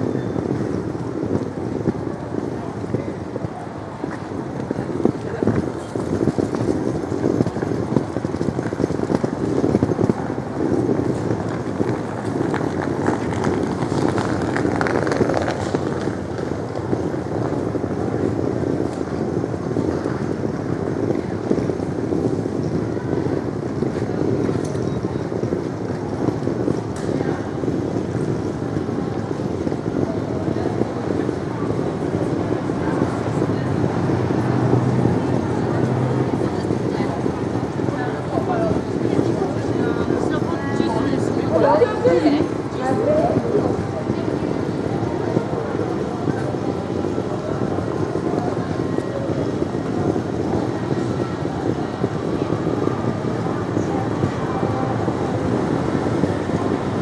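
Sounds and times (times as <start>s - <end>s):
crowd talking: 0.0s - 57.0s.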